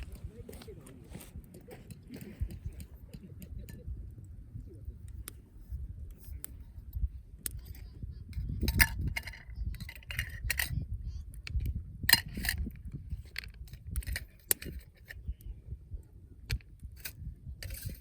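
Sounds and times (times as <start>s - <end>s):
campfire crackling: 0.0s - 15.2s.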